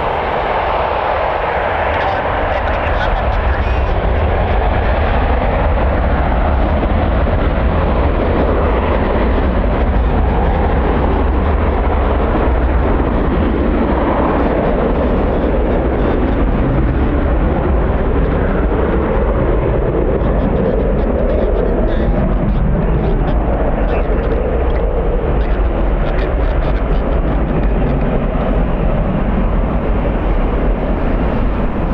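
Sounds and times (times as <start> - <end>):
strong wind on microphone: 0.0 - 31.9.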